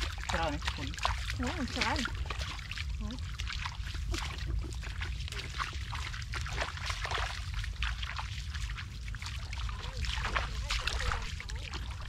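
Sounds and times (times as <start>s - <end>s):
bare feet squelching in mud: 0.0s - 12.0s
steady low rumble: 0.0s - 12.0s.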